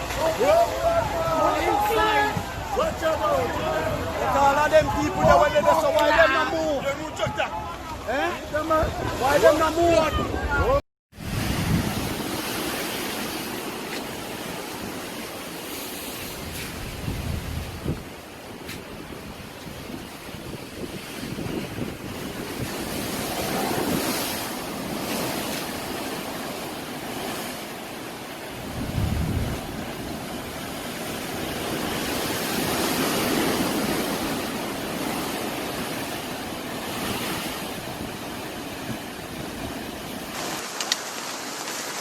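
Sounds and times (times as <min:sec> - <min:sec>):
wind buffeting microphone: 0:00.0 - 0:15.1, 0:16.3 - 0:27.3, 0:28.5 - 0:40.4
rushing floodwater: 0:00.0 - 0:42.0.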